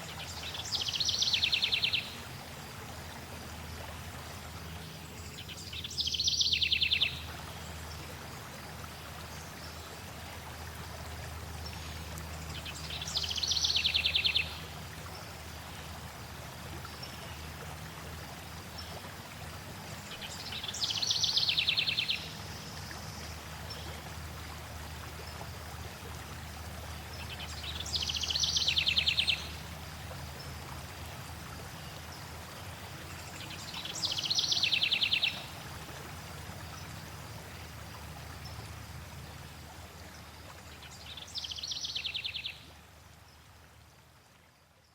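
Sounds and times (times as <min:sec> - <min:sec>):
flowing water: 0:00.0 - 0:44.9.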